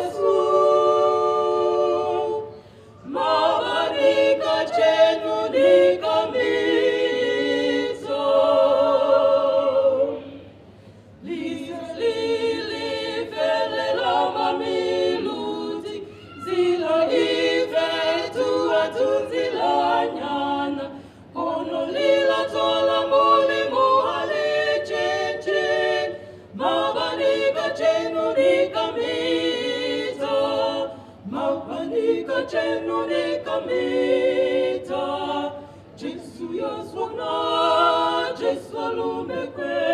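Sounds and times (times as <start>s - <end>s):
women singing gospel in harmony: 0.0s - 10.4s, 11.2s - 39.9s.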